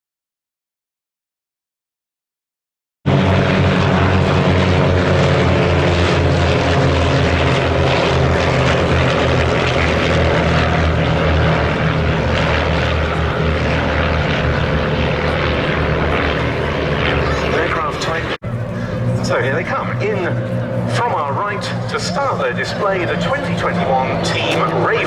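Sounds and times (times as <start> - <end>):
propeller aircraft engine drone: 3.1 - 25.0.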